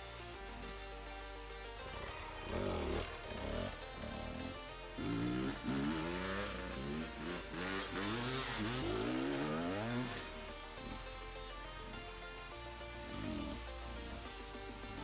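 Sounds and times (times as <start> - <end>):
background music: 0.0 - 15.0
motorcycle engine revving: 0.0 - 15.0.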